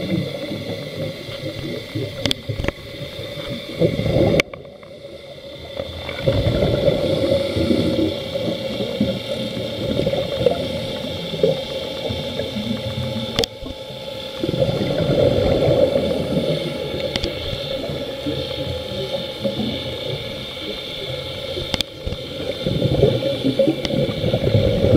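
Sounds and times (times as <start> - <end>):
steady hum: 0.0 - 24.9
underwater exhaled bubbles gurgling: 0.0 - 24.9.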